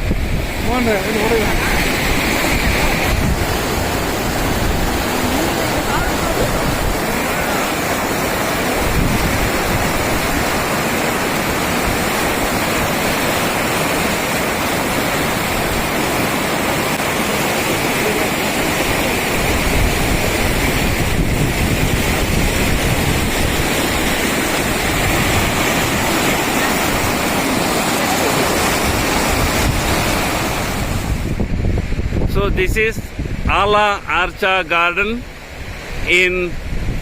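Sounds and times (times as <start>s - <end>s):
mountain stream rushing: 0.0s - 37.0s.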